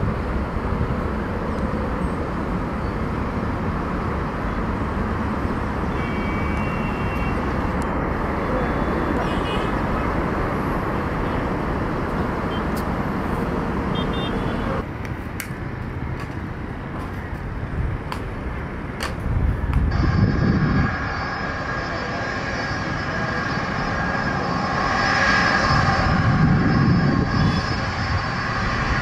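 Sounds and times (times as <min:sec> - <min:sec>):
jet engines rushing: 0:00.0 - 0:29.0
jet engines whining: 0:00.0 - 0:29.0.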